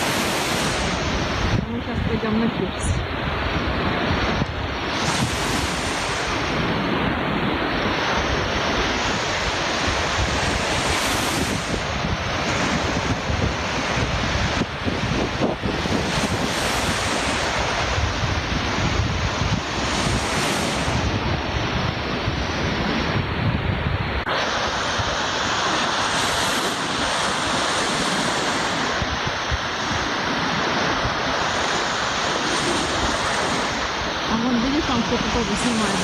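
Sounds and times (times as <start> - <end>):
surf breaking on shore: 0.0 - 36.0
wind buffeting microphone: 0.0 - 36.0.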